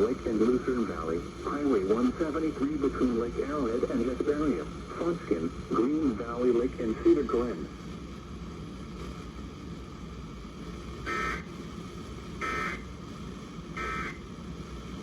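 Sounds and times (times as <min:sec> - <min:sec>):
radio hiss and hum: 0:00.0 - 0:15.0.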